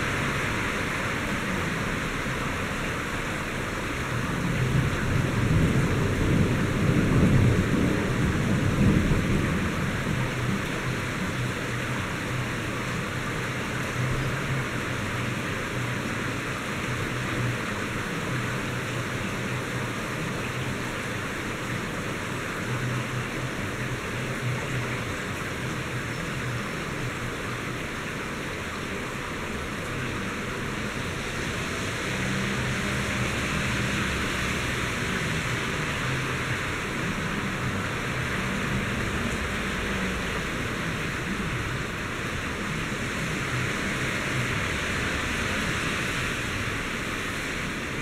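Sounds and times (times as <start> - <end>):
heavy rain hissing: 0.0 - 48.0.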